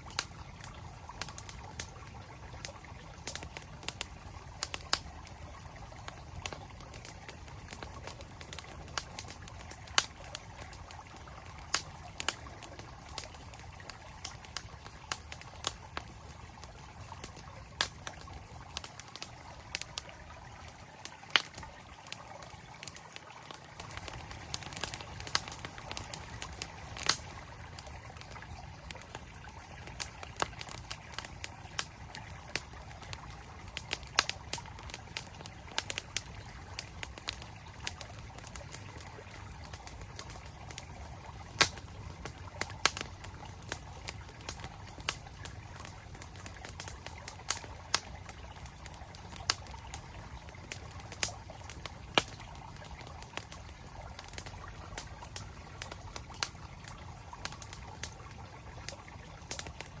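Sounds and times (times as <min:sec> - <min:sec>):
campfire crackling: 0:00.0 - 1:00.0
stream flowing: 0:00.0 - 1:00.0.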